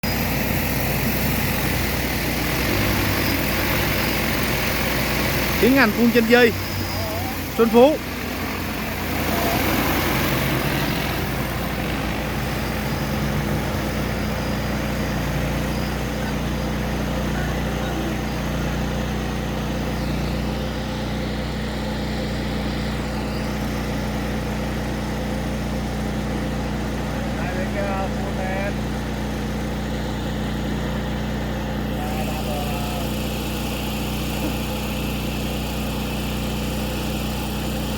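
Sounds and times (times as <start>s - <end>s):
drone rotors humming: 0.0s - 37.9s.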